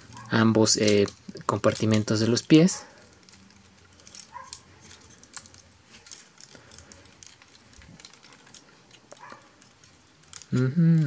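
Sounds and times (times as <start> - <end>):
plastic toy parts clicking: 0.0 - 11.0.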